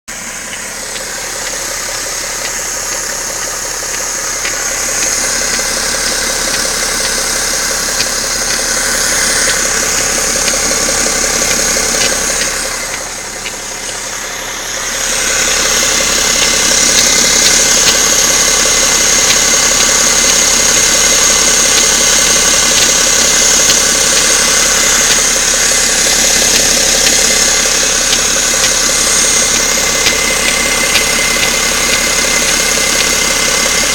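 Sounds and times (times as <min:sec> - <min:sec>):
diesel engine knocking: 0:00.1 - 0:33.9.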